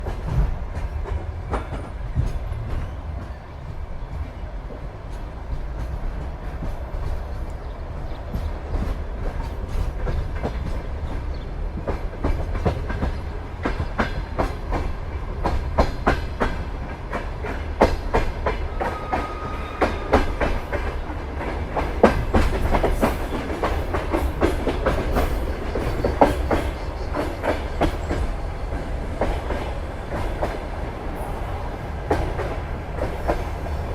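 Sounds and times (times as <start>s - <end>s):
low rumble of moving train: 0.0s - 33.9s
train wheels clattering over joints: 0.0s - 33.9s.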